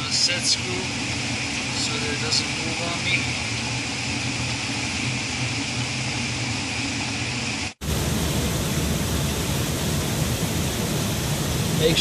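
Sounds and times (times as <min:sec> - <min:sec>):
low hum: 0:00.0 - 0:12.0
steady rushing noise: 0:00.0 - 0:12.0.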